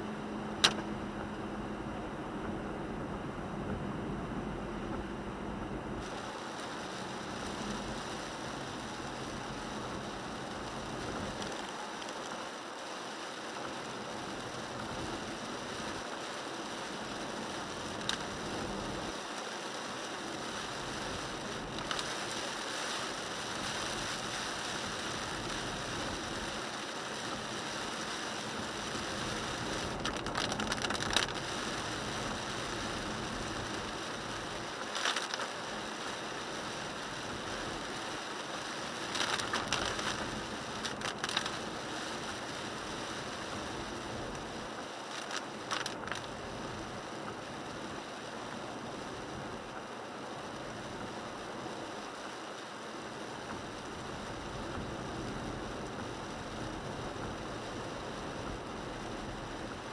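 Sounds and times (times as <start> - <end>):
hiss of tyres and rain: 0.0 - 59.9.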